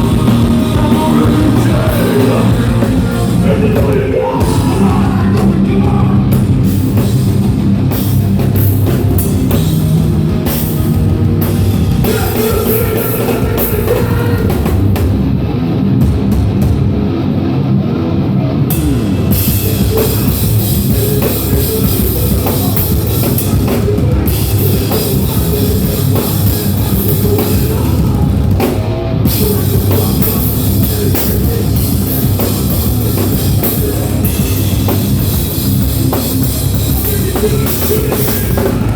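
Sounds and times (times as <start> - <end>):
pounding drum kit: 0.0 - 17.4, 18.7 - 38.9
bass guitar: 0.0 - 38.9
distorted electric guitars: 0.0 - 38.9.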